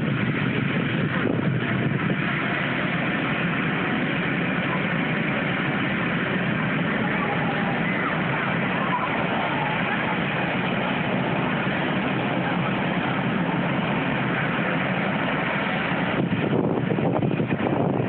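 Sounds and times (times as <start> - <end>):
helicopter turbine and rotor running: 0.0 - 18.0.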